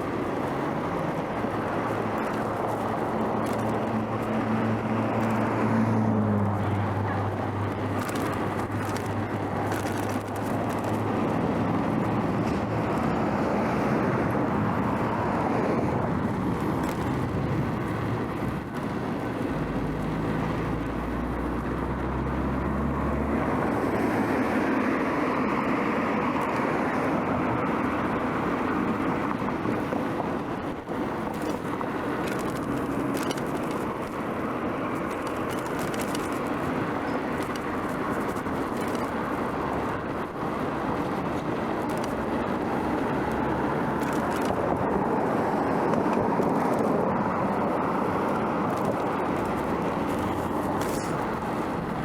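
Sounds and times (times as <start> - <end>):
road traffic noise: 0.0 - 52.0
vehicle engine low hum: 0.0 - 52.0.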